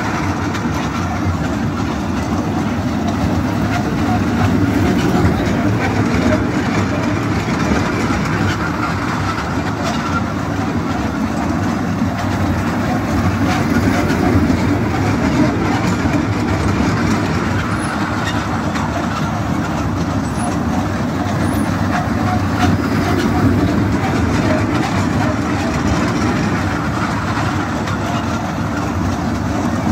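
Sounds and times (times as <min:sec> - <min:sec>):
voices: 0:00.0 - 0:28.8
train wheels rolling on rails: 0:00.0 - 0:29.9.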